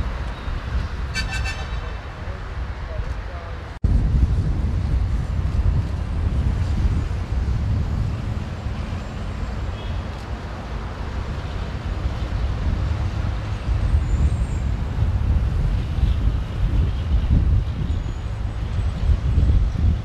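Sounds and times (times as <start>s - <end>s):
road traffic passing: 0.0s - 20.0s
wind rumble on microphone: 0.0s - 20.0s.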